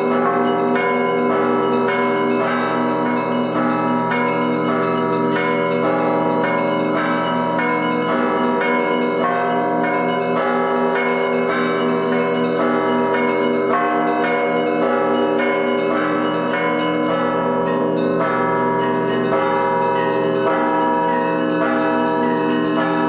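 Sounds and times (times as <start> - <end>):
lower bells ringing: 0.0 - 23.0.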